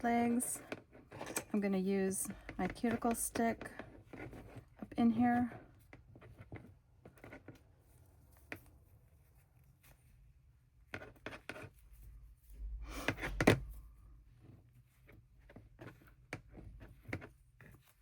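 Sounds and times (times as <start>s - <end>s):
knocks and handling noise: 0.0s - 10.2s, 10.8s - 18.0s.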